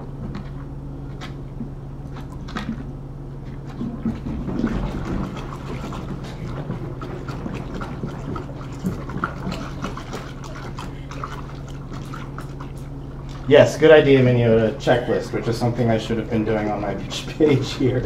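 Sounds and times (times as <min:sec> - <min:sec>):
liquid swishing: 0:00.4 - 0:18.0.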